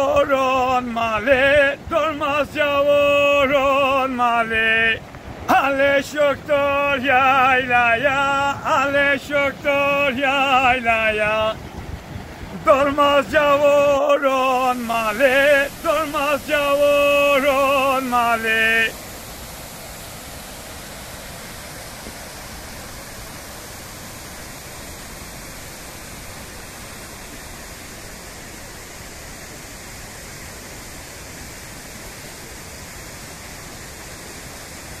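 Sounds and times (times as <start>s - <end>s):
stream rushing over boulders: 0.0s - 35.0s.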